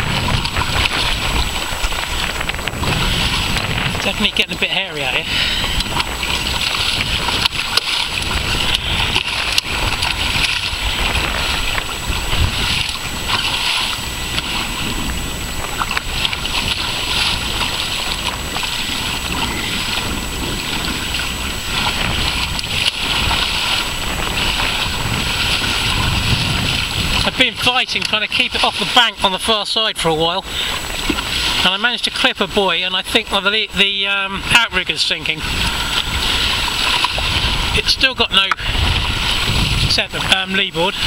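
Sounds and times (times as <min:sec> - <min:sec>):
water splashing against hull: 0:00.0 - 0:41.0
wind buffeting microphone: 0:00.0 - 0:41.0.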